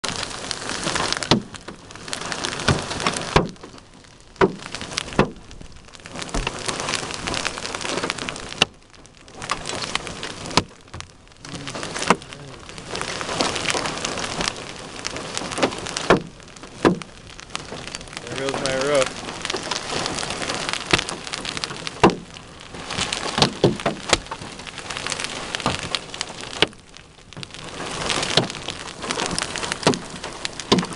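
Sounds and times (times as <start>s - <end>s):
hailstones knocking on vehicle: 0.0s - 30.9s
heavy rain hissing: 0.0s - 30.9s.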